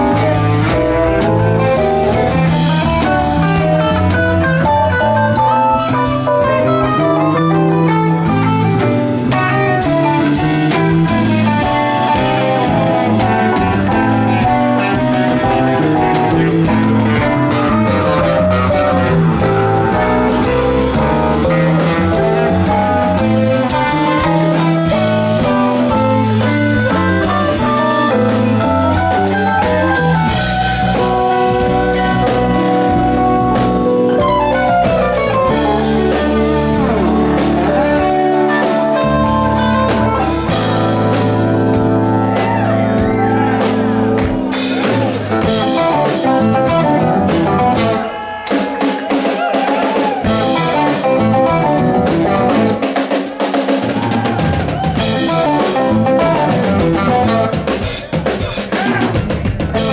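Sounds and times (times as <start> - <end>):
electric guitar melody: 0.0 - 58.7, 59.4 - 59.9
bass line: 0.0 - 59.9
drum kit: 0.0 - 59.9.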